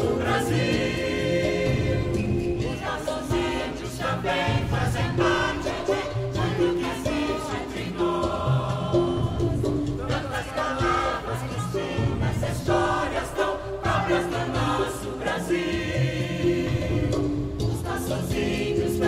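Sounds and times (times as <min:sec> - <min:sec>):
steady beat: 0:00.0 - 0:18.9
choir singing: 0:00.0 - 0:19.0
instrumental accompaniment: 0:00.0 - 0:19.0.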